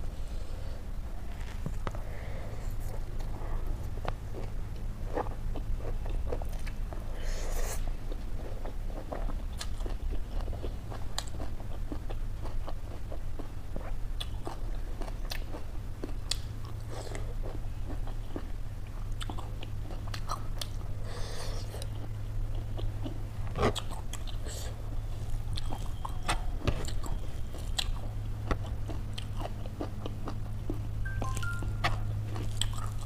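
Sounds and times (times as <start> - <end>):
person chewing crunchy food: 1.2 - 33.0.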